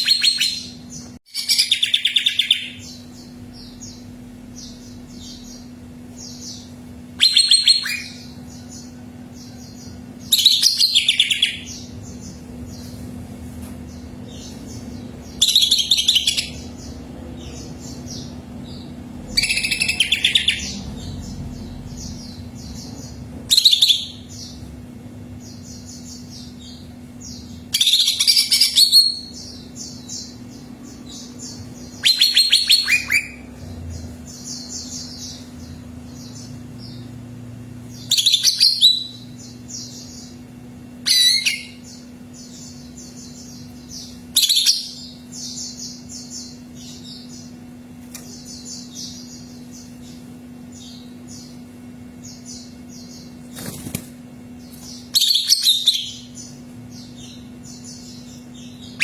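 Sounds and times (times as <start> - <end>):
bird song bursts: 0.0 - 12.9, 13.8 - 24.7, 25.3 - 37.2, 37.8 - 59.0
soft rapid bird chirping: 0.0 - 13.2, 13.8 - 59.0
faint steady hum: 0.0 - 59.0.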